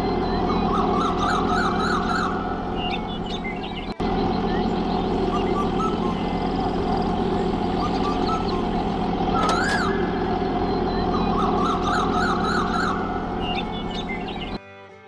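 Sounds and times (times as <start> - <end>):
siren wailing: 0.0 - 14.6
steady rumble: 0.0 - 14.6.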